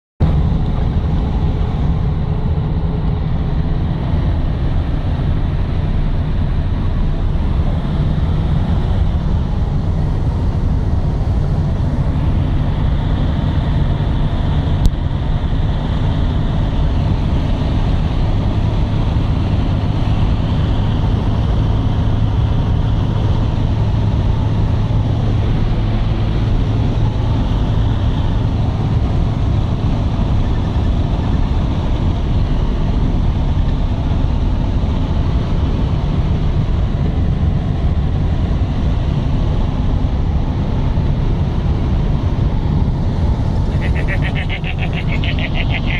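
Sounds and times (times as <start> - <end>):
diesel truck engine running: 0.2 - 45.9.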